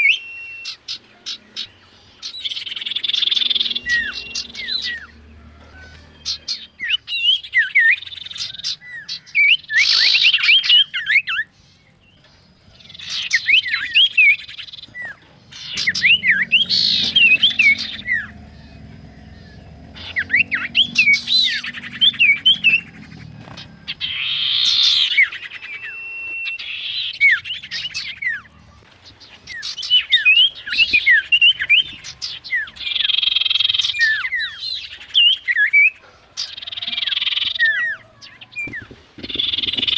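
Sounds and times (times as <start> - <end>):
bird chirping and whistling: 0.0 - 1.0, 1.6 - 11.6, 12.8 - 18.6, 19.3 - 28.6, 29.2 - 39.9.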